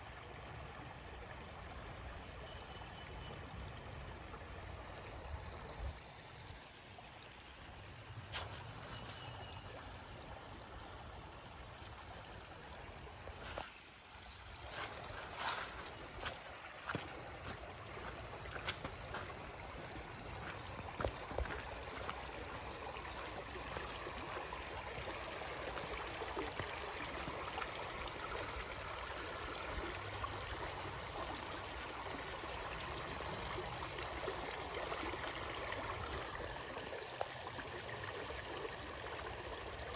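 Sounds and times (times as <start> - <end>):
creek water burbling: 0.0 - 39.9.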